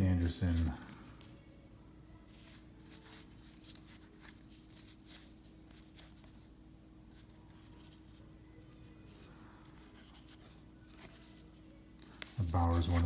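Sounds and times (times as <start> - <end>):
faint steady hum: 0.0 - 13.0
cards sliding soft swishes: 2.2 - 13.0.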